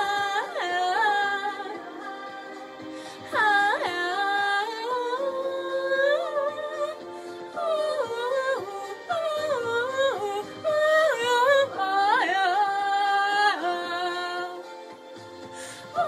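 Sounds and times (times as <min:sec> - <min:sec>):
woman singing without words: 0:00.0 - 0:14.7.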